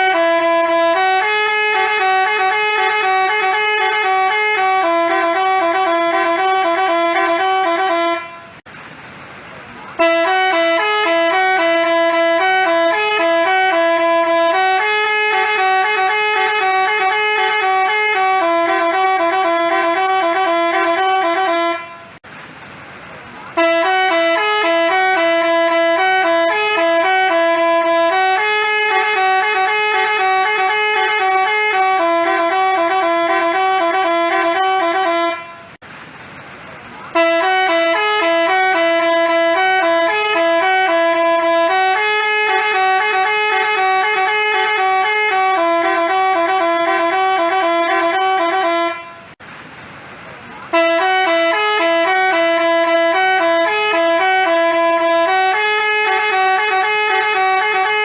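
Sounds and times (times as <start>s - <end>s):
musical bus horn playing a tune: 0.0s - 8.7s, 9.9s - 22.2s, 23.5s - 35.8s, 37.1s - 49.4s, 50.7s - 58.0s.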